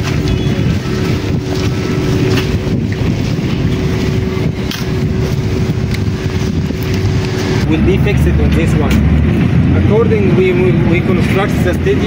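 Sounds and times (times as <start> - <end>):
construction machinery drone: 0.0 - 12.0
wind buffeting microphone: 0.0 - 12.0.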